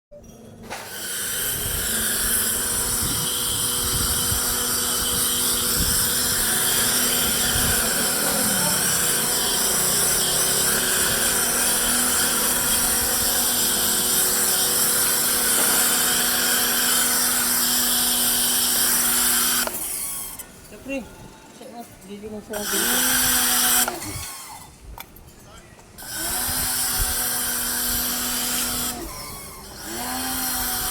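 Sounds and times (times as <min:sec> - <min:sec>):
high-speed motorised tool whining: 0:00.6 - 0:21.0, 0:22.4 - 0:24.8, 0:26.0 - 0:30.9.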